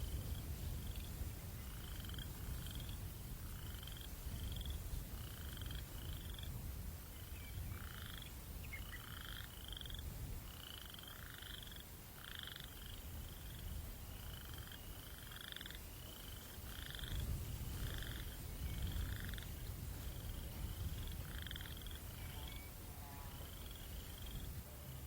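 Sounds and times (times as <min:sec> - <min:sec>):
low rumble of wind: 0:00.0 - 0:25.0
frogs calling: 0:00.1 - 0:24.6.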